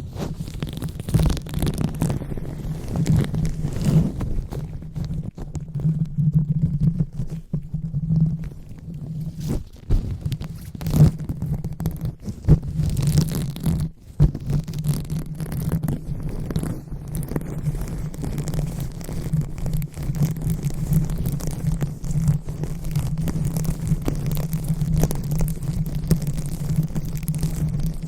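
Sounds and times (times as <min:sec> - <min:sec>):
hands rubbing on microphone: 0:00.0 - 0:28.0.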